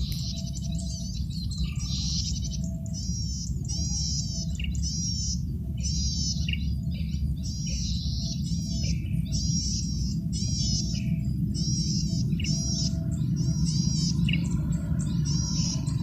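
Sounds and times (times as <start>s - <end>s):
bird singing buzzy high notes: 0.0s - 16.0s
steady low rumble: 0.0s - 16.0s.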